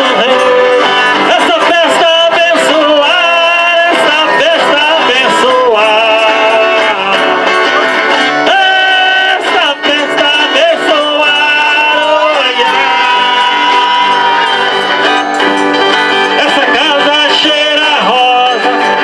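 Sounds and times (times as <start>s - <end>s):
plucked strings: 0.0s - 19.0s
voices singing held notes: 0.0s - 19.0s.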